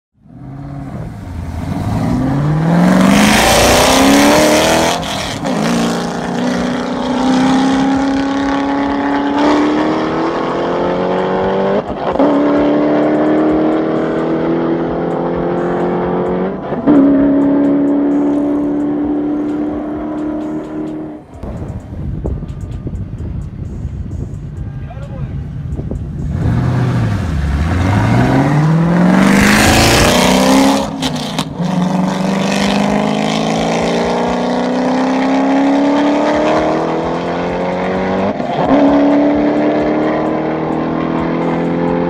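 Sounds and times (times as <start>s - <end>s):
cars accelerating at full throttle: 0.2s - 24.5s, 25.4s - 42.0s.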